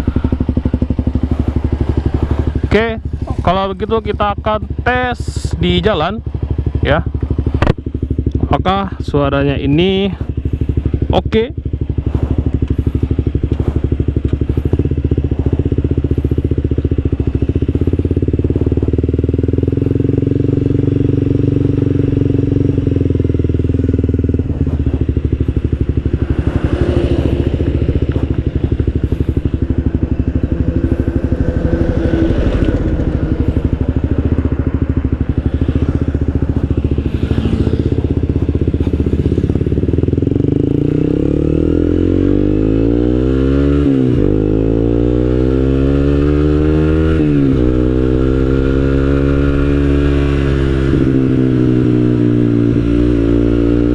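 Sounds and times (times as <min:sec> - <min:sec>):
motorcycle engine exhaust note: 0:00.0 - 0:53.9.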